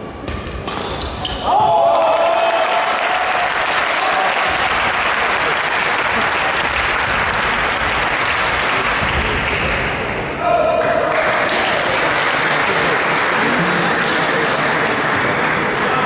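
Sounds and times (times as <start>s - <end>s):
spectators applauding: 1.8s - 10.0s, 10.8s - 16.0s.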